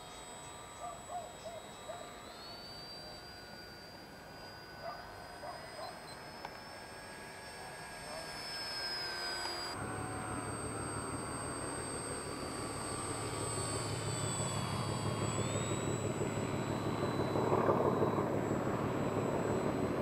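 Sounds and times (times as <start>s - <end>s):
model plane motor whine: 0.0s - 20.0s.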